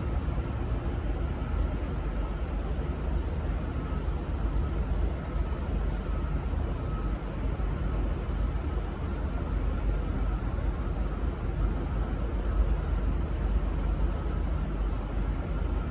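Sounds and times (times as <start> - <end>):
faint steady tone: 0.0 - 15.9
railway station rumble and hiss: 0.0 - 15.9.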